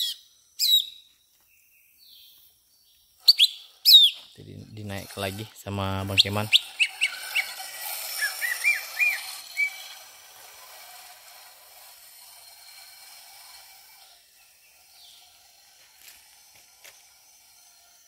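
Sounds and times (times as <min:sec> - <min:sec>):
bird chirping: 0:00.0 - 0:10.5, 0:12.8 - 0:17.9
faint forest background: 0:00.0 - 0:18.0.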